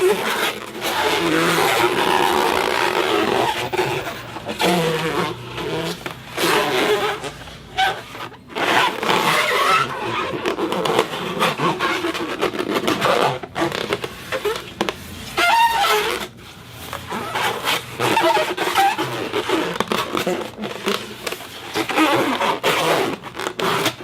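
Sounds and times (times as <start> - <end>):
scraping and rubbing: 0.0 - 24.0.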